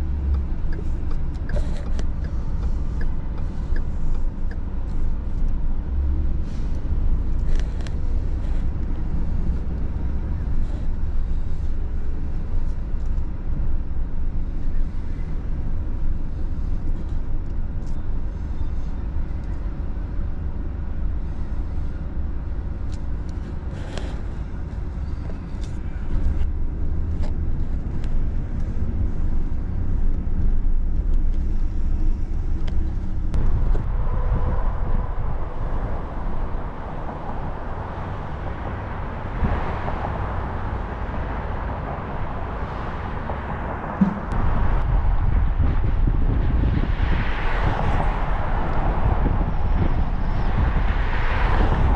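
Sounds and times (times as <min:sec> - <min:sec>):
car engines: 0:00.0 - 0:51.9
low traffic rumble: 0:00.0 - 0:51.9.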